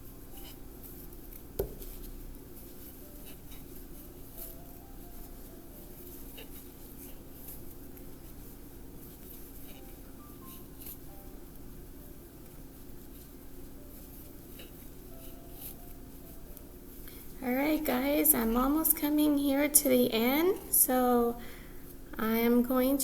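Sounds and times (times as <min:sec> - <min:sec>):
crochet hook scratching yarn: 0:00.0 - 0:21.1
steady low hum: 0:00.0 - 0:23.0.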